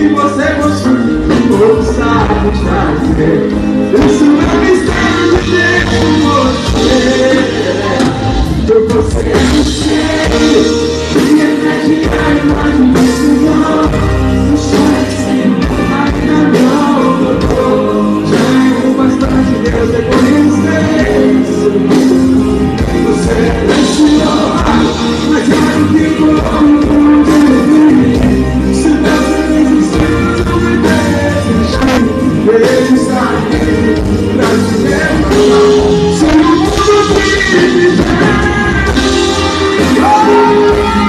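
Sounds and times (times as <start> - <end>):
band with electric guitar: 0.0 - 41.0
man singing gospel: 0.0 - 41.0.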